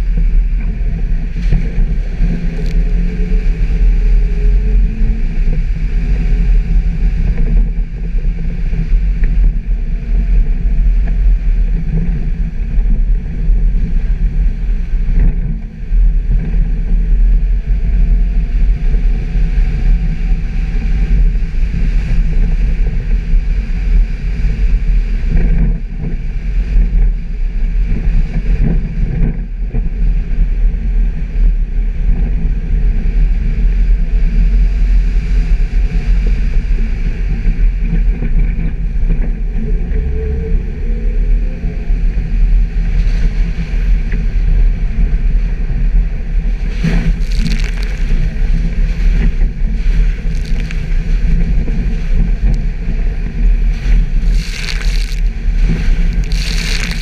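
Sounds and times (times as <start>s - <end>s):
car engine rumbling off-road: 0.0s - 56.4s.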